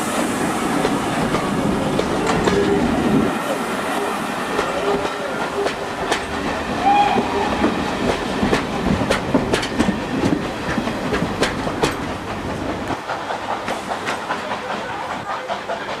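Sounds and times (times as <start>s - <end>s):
train rolling rumble: 0.0s - 16.0s
train wheels clicking over rail joints: 0.1s - 16.0s.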